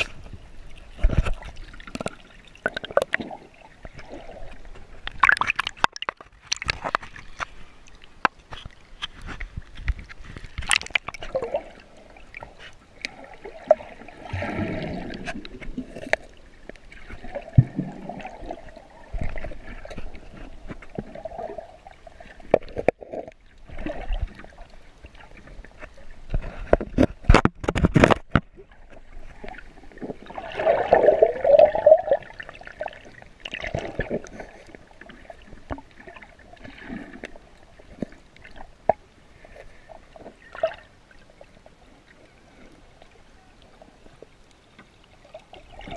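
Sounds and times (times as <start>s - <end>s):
water sloshing and gurgling: 0.0s - 45.9s.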